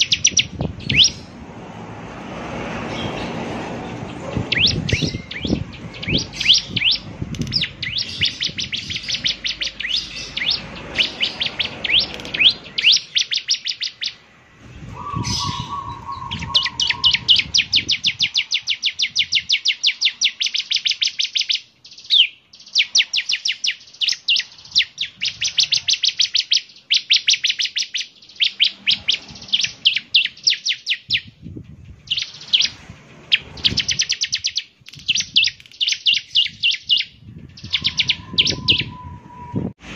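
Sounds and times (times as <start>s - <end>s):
bird singing high sharp chirps: 0.0s - 1.4s, 4.1s - 14.3s, 14.9s - 39.7s.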